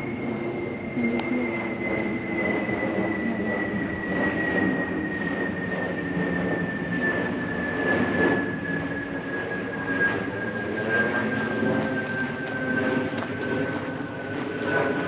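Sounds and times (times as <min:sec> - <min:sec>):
jet passing overhead: 0:00.0 - 0:15.0.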